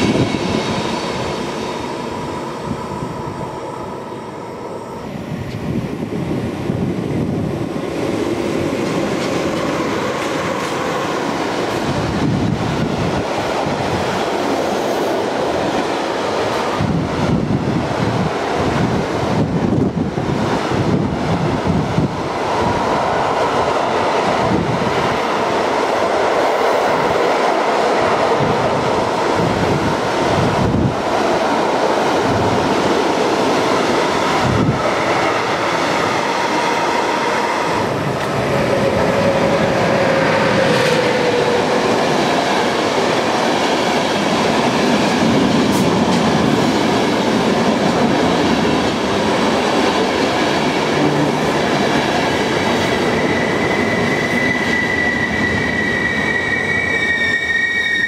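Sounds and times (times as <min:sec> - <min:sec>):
passenger train rolling by: 0:00.0 - 0:58.0
train wheels clacking on rails: 0:07.9 - 0:56.4.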